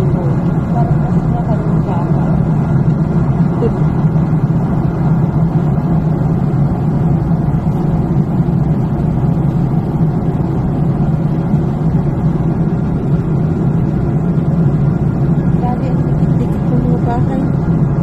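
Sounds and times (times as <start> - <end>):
jet engines droning in cabin: 0.0 - 18.0
low hum: 0.0 - 18.0.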